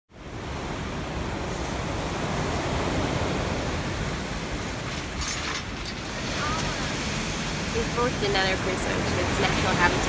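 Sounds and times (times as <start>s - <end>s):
ocean surf washing on beach: 0.2s - 10.0s.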